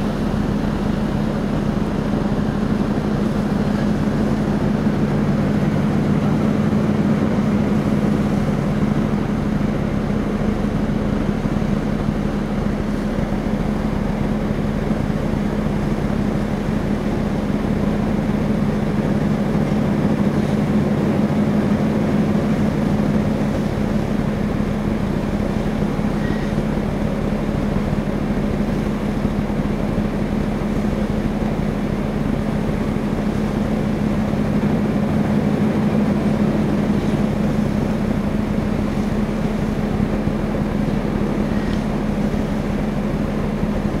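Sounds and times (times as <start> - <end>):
ferry engines droning: 0.0 - 44.0
water noise: 0.0 - 44.0
wind: 0.0 - 44.0.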